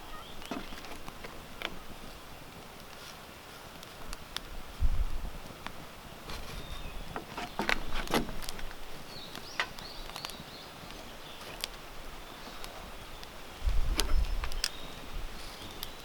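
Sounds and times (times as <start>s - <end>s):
dry snaps and crackles: 0.4s - 16.0s.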